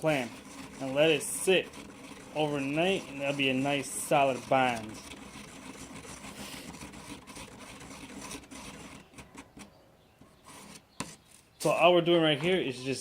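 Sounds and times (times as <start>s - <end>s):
screwdriver scraping epoxy: 0.0s - 9.8s, 10.4s - 13.0s.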